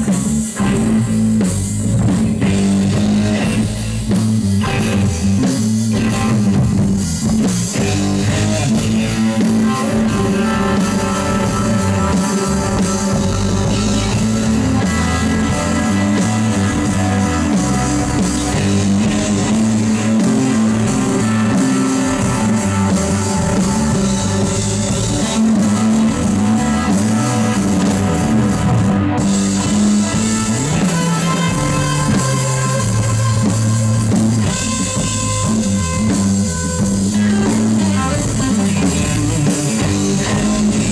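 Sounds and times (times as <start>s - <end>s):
bass guitar line: 0.0s - 40.9s
drum kit: 0.0s - 40.9s
electric guitar: 0.0s - 40.9s.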